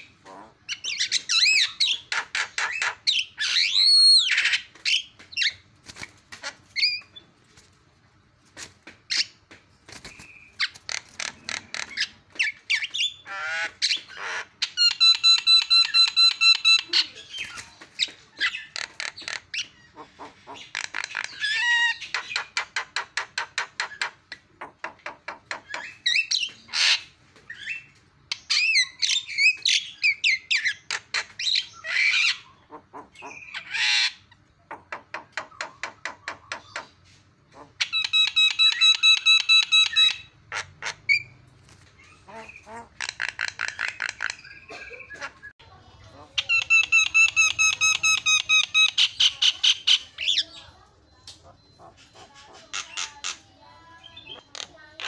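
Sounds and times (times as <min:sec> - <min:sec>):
bird singing varied song: 0:00.0 - 0:05.6, 0:09.1 - 0:55.0.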